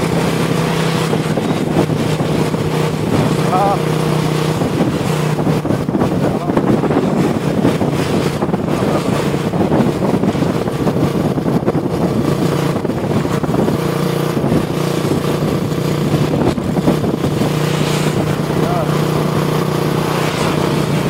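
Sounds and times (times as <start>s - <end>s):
heavy truck engine running: 0.0s - 21.0s
road noise: 0.0s - 21.0s.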